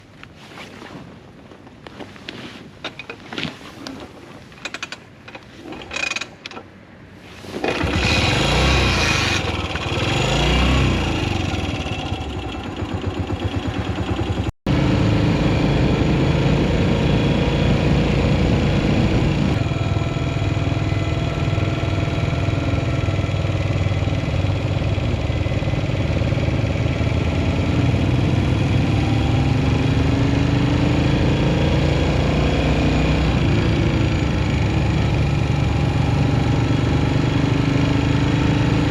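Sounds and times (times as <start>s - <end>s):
motorcycle engine revving: 7.6s - 38.9s.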